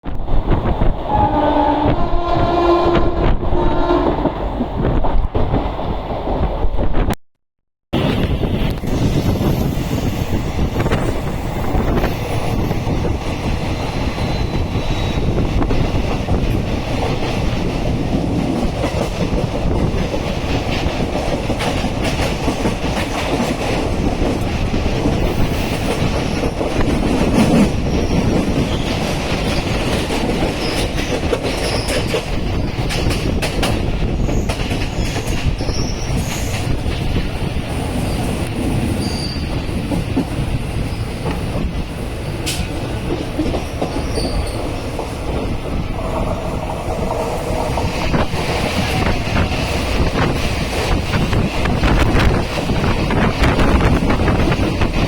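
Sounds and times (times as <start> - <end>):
train wheels rumbling on rails: 0.0 - 7.1, 8.0 - 55.0
rail joint clicks: 8.0 - 55.0.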